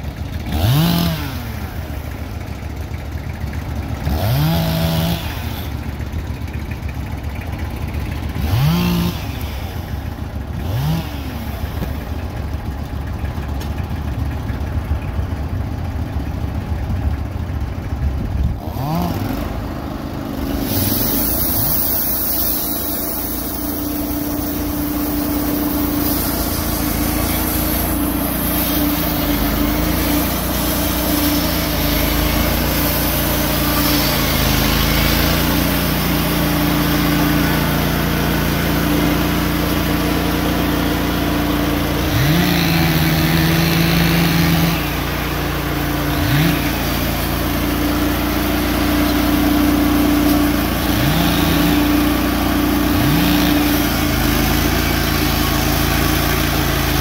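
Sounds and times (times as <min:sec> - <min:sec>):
gas engine running and revving: 0:00.0 - 0:57.0.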